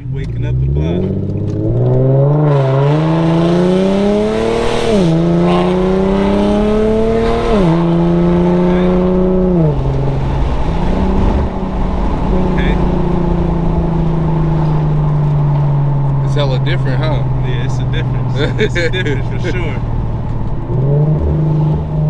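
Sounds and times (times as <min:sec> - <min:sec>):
car exhaust accelerating hard: 0:00.0 - 0:22.0.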